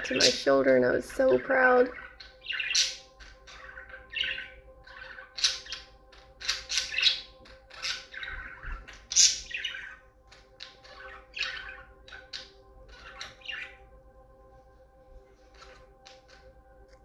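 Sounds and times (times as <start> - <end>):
budgerigars chattering and squawking: 0.0 - 13.8, 15.5 - 16.4.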